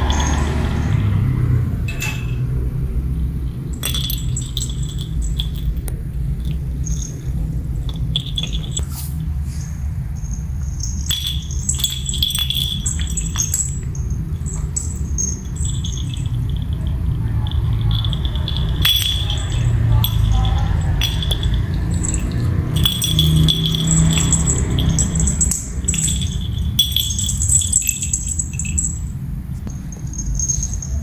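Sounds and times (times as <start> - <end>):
small bell jingling: 0.0 - 1.2, 1.9 - 2.5, 3.4 - 9.4, 10.1 - 31.0
low hum: 0.0 - 31.0.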